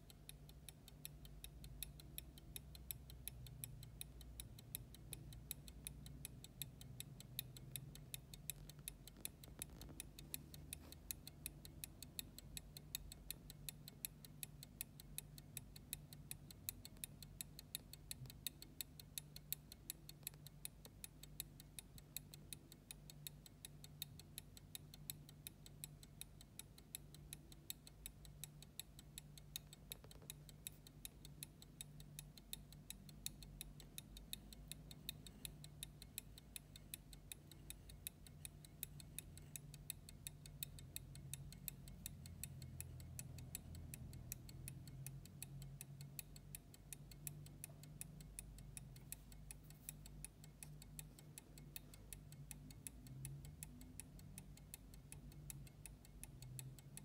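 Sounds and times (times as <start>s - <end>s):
pocket watch ticking: 0.0s - 57.0s.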